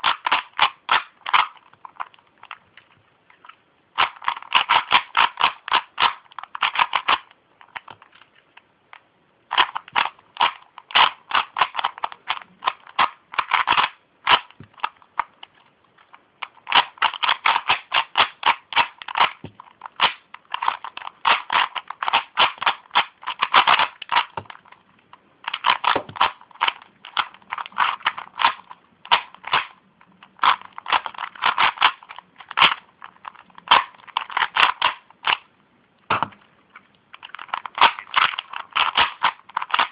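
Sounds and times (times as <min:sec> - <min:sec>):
puzzle cube plastic clacking: 0:00.0 - 0:39.9.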